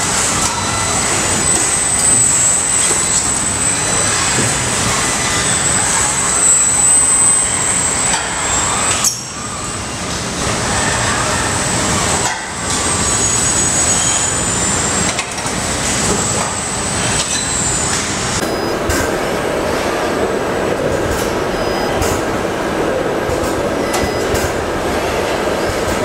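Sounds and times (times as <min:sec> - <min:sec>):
assembly line machinery din: 0:00.0 - 0:26.0.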